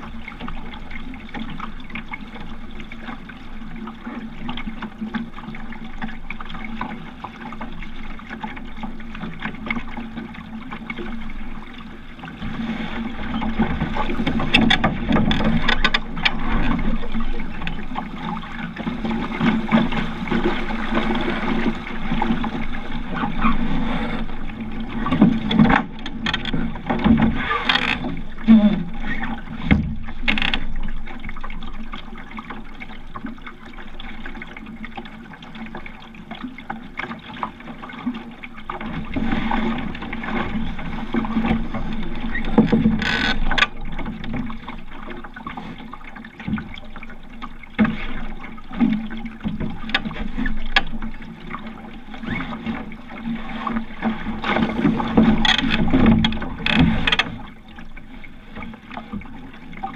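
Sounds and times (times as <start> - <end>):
water lapping against boat hull: 0.0 - 59.9.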